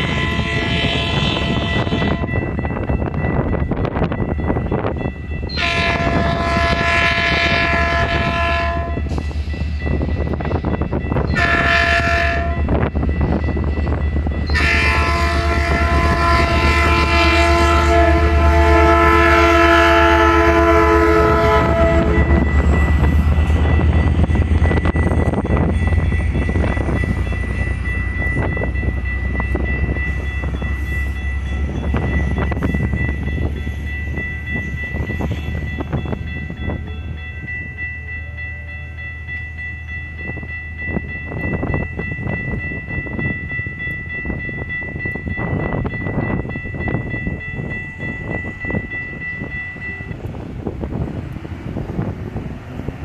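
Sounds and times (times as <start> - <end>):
crossing warning bell ringing: 0.0 - 53.0
train rumble and wheel clatter: 0.0 - 53.0.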